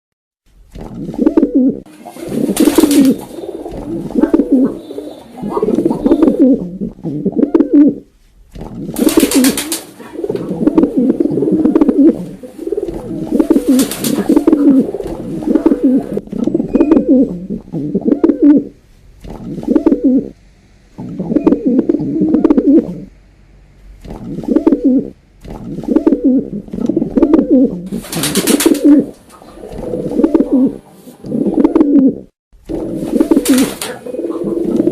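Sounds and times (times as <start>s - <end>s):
pigeon cooing: 0.8s - 8.1s, 8.8s - 20.4s, 21.0s - 23.1s, 24.1s - 34.9s.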